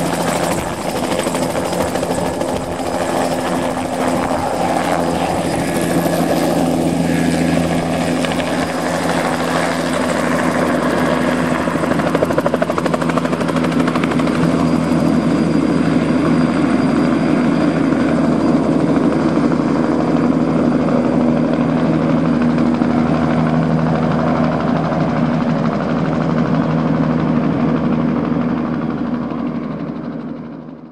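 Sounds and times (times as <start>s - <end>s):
helicopter rotor beating: 0.0s - 30.9s
helicopter turbine whine: 0.0s - 30.9s.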